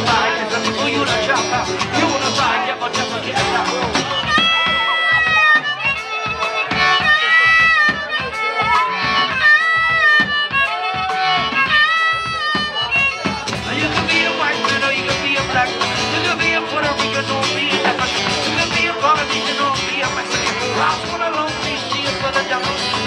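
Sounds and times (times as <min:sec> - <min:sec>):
acoustic guitar: 0:00.0 - 0:23.0
drum beat: 0:00.0 - 0:23.0
harmonica wailing: 0:00.0 - 0:23.0.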